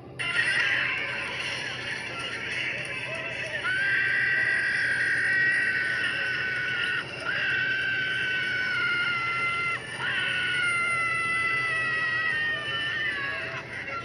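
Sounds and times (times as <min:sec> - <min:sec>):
high-pitched voice screaming: 0:00.2 - 0:14.0.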